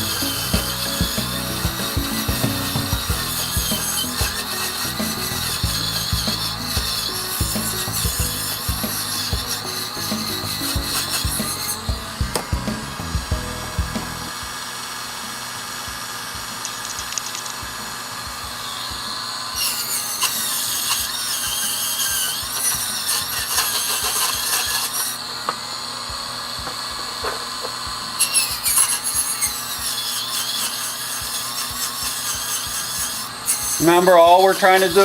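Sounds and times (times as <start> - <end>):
rotary tool squealing on wood: 0.0 - 13.1, 18.6 - 25.8, 26.5 - 35.0
rotary tool whining: 0.0 - 35.0.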